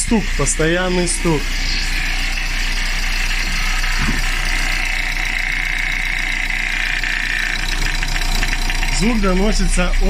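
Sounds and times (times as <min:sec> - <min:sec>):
car engine idling: 0:00.0 - 0:10.0
compressor knocking: 0:00.0 - 0:10.0.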